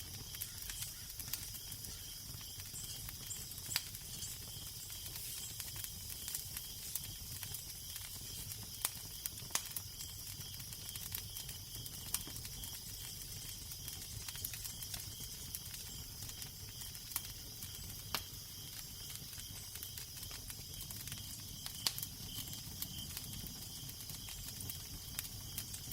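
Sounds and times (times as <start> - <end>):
fire crackling and popping: 0.0 - 25.9.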